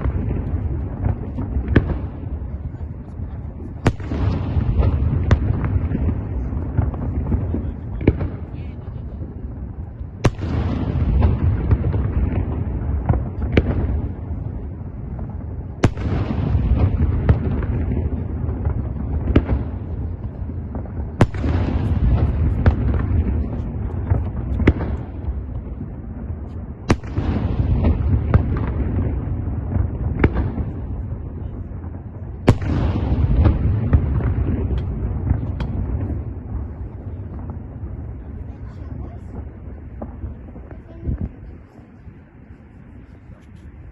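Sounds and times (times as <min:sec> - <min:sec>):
sharp firework cracks: 0:00.0 - 0:41.6
fireworks booming: 0:00.0 - 0:42.4.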